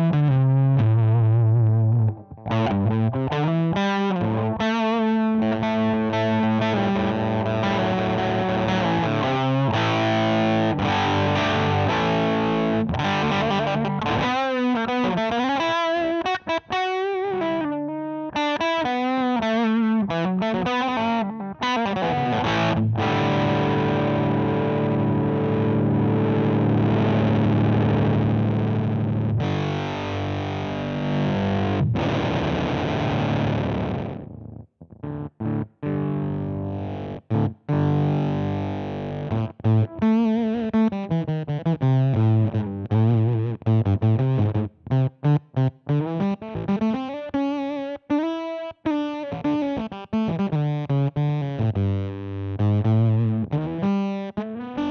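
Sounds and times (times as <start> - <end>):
fuzz electric guitar: 0.0 - 54.9.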